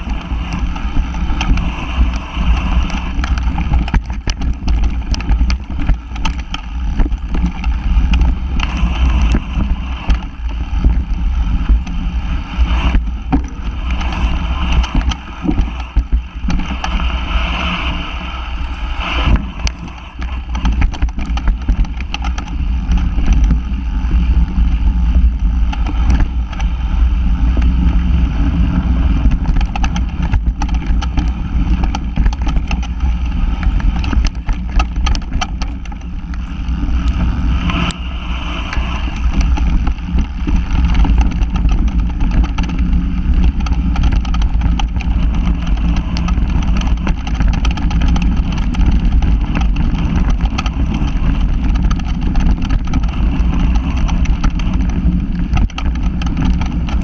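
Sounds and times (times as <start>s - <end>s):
bike rattles and knocks: 0.0s - 57.0s
wind and tyre rumble: 0.0s - 57.0s.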